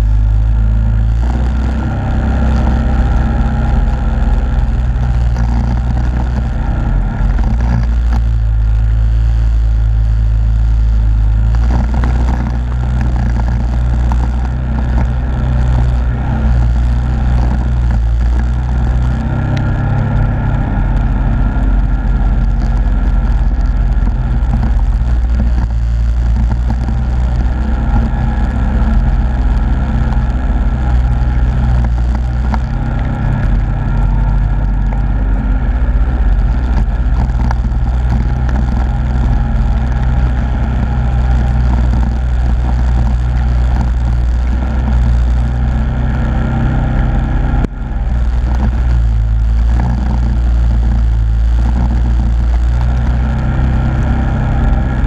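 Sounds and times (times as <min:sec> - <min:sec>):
quad engine running: 0:00.0 - 0:55.0.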